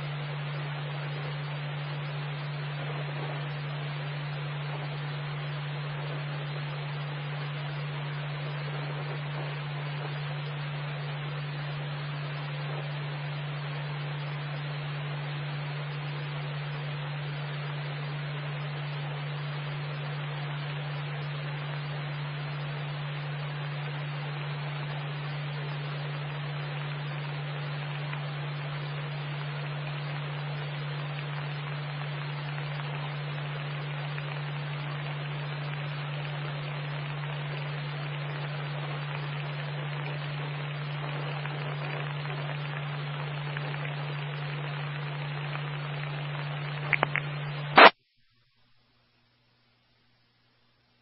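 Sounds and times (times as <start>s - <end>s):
radio hiss: 0.0s - 48.0s
constant low hum: 0.0s - 51.0s.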